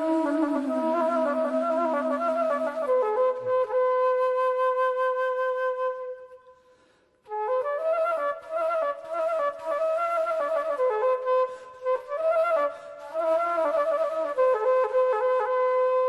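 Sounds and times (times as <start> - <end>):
flute playing ornamented melody: 0.0 - 6.4, 7.3 - 16.0.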